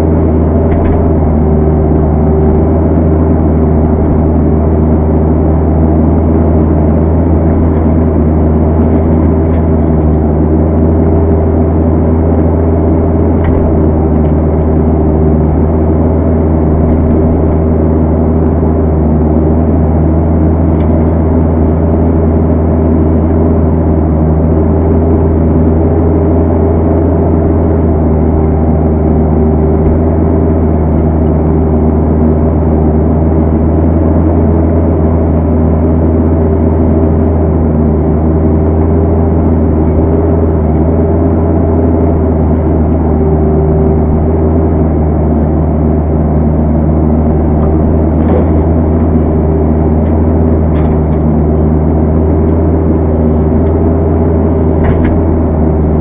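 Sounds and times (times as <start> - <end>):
diesel excavator engine droning: 0.0 - 56.0.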